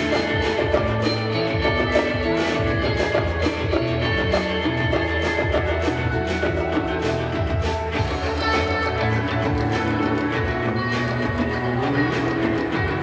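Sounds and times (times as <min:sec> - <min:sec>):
bass line: 0:00.0 - 0:13.0
congas: 0:00.0 - 0:13.0
drum kit beat: 0:00.0 - 0:13.0
electric guitars: 0:00.0 - 0:13.0
live rock band playing: 0:00.0 - 0:13.0.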